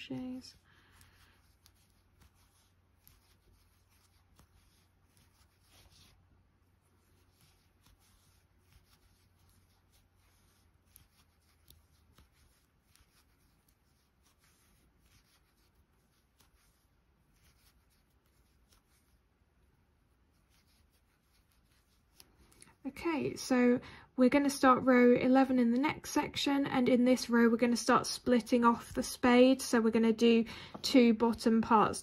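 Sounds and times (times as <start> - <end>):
faint rustling of yarn: 0.0 - 32.0.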